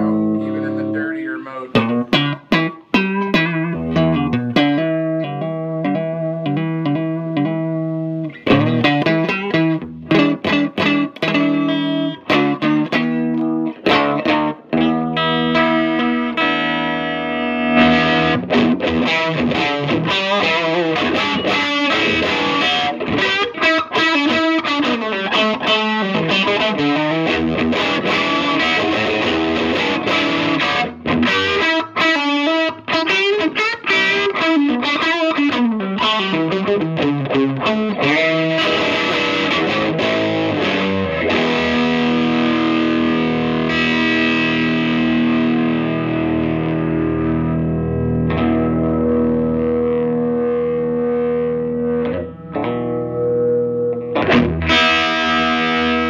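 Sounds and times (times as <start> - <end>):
electric guitar through amp: 0.0 - 56.0.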